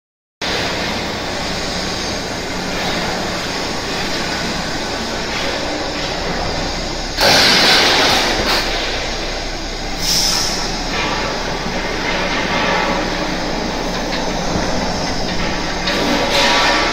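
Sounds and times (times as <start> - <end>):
roll forming machine humming: 0.4 - 16.9
loud hiss: 0.5 - 16.9.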